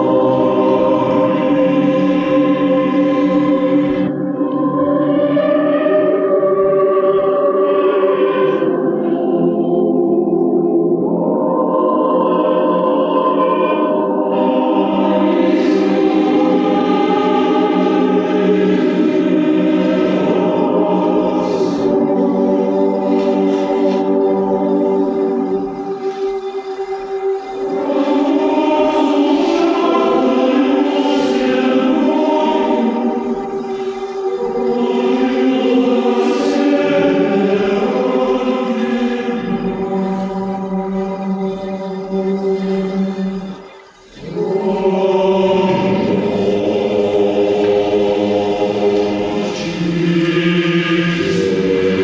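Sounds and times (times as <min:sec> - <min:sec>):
choir singing held chords: 0:00.0 - 0:52.0.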